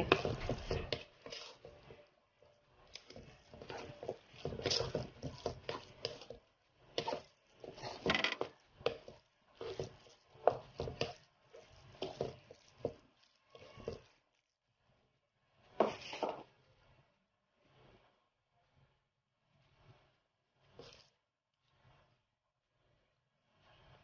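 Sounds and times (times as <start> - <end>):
utensil stirring thick mix in pot: 0.0 - 24.0.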